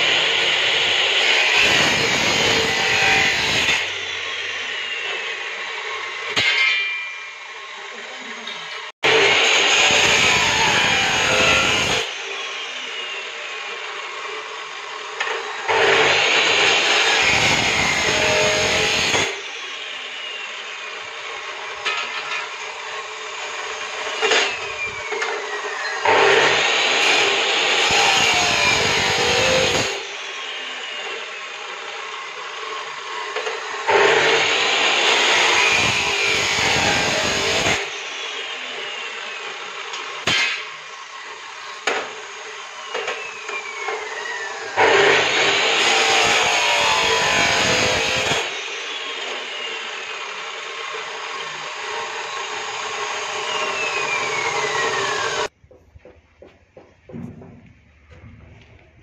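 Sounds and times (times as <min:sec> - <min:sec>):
chop saw cutting steel: 0:00.0 - 0:55.5.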